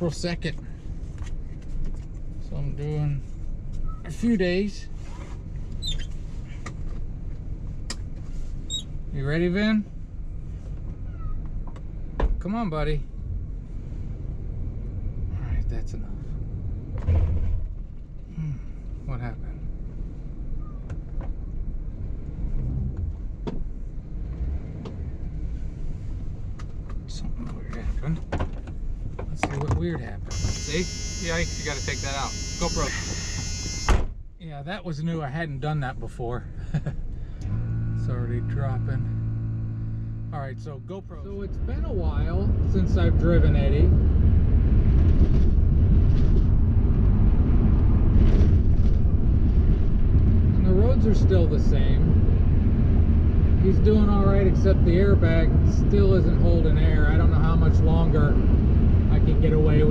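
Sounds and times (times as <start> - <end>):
road noise: 0.0 - 59.9
van engine rumbling: 0.0 - 59.9.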